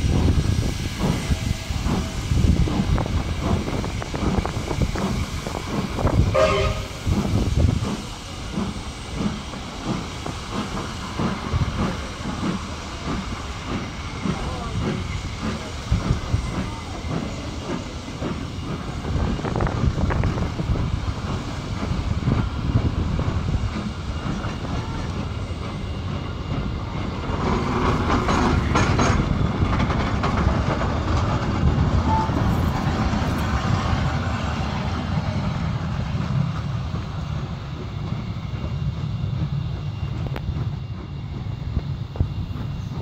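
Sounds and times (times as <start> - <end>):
train carriages rumbling past: 0.0 - 43.0.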